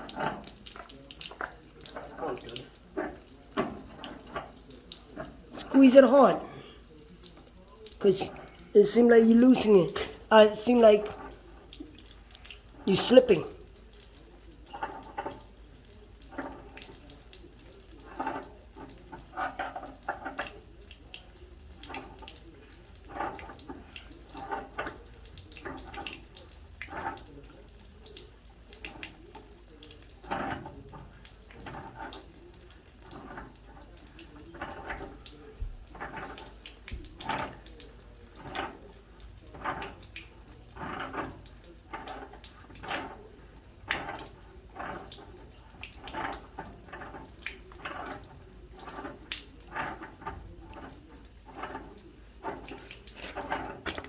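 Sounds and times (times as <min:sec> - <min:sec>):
water dripping and splashing: 0:00.0 - 0:54.0.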